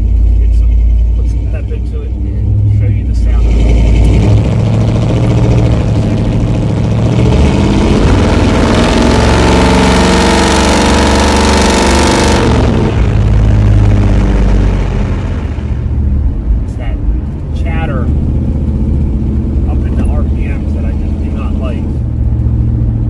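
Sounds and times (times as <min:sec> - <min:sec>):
exhaust chatter: 0:00.0 - 0:23.0
v eight engine accelerating: 0:00.0 - 0:23.0.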